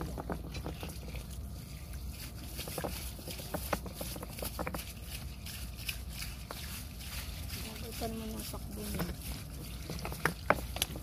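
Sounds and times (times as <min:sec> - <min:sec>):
stones scraping and knocking: 0:00.0 - 0:11.0
water running from a hose: 0:00.0 - 0:11.0.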